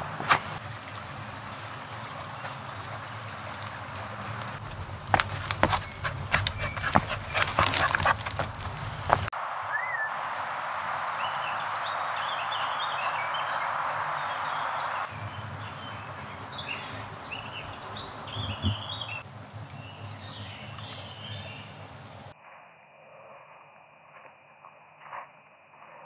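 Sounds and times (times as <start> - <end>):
brook rushing: 0.0 - 22.3
birds singing: 0.5 - 22.4.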